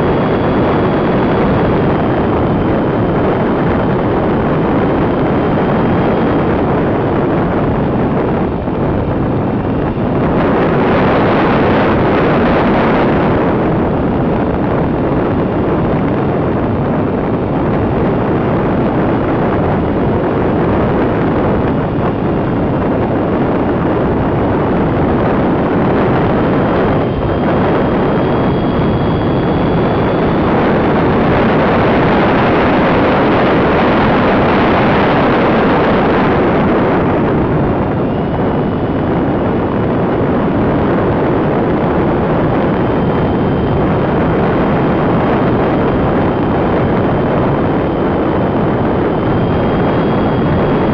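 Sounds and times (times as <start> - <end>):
faint high motor whine: 0.0 - 50.9
wind buffeting microphone: 0.0 - 50.9.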